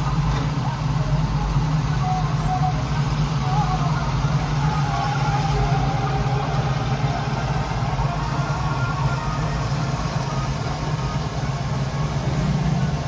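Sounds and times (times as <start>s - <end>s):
combine harvester engine droning: 0.0s - 13.0s.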